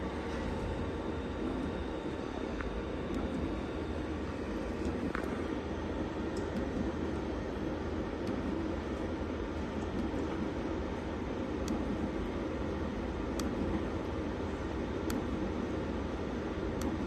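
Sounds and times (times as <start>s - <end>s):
machinery drone: 0.0s - 15.7s.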